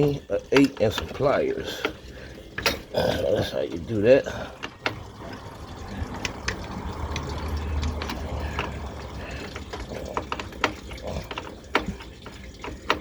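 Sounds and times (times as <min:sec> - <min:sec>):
hand tools clicking on metal: 0:00.0 - 0:13.0
liquid trickling: 0:00.0 - 0:13.0.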